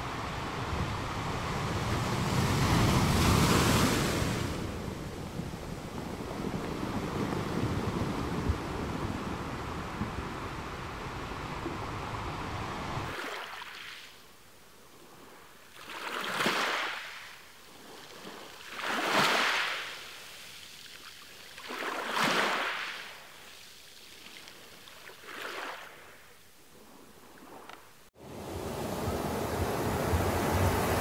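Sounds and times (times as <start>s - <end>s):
small sea waves washing in: 0.0s - 31.0s.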